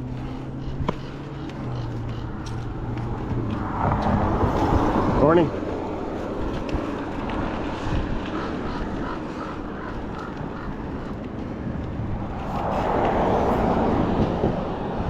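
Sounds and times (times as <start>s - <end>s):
bicycle road noise: 0.0s - 15.0s
wind noise: 0.0s - 15.0s.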